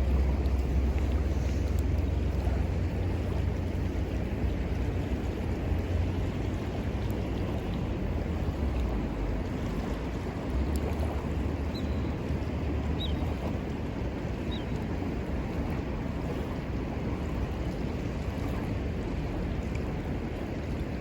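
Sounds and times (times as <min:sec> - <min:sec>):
flowing river: 0:00.0 - 0:21.0
wind rumble on microphone: 0:00.0 - 0:21.0.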